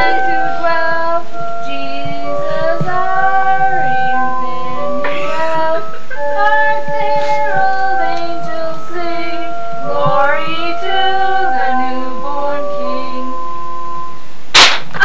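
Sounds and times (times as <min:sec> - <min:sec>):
people singing a carol: 0:00.0 - 0:13.5.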